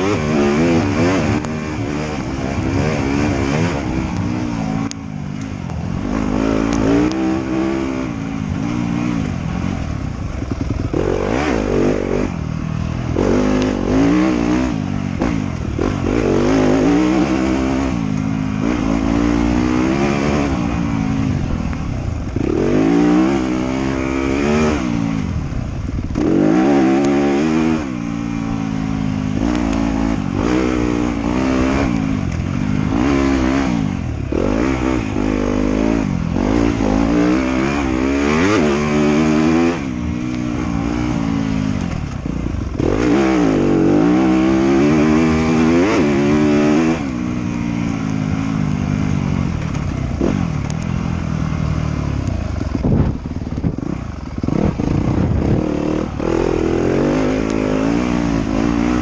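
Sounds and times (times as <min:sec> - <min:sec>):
off-road motorcycle engine revving: 0:00.0 - 0:59.0.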